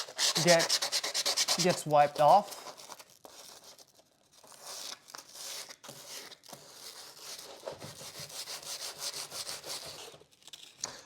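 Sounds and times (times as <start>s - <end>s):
sandpaper rubbing on canvas: 0.0s - 3.8s, 4.5s - 10.2s.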